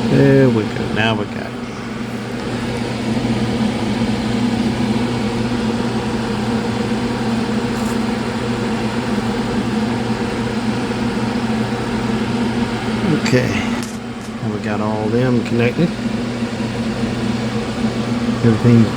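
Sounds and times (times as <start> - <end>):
constant airy noise: 0.0 - 18.9
steady machine hum: 0.0 - 18.9.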